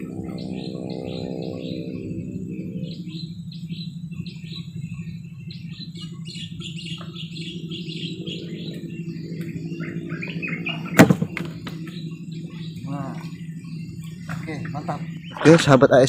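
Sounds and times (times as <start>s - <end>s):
forest birds chirping: 0.0s - 16.0s
steady low hum: 0.0s - 16.0s.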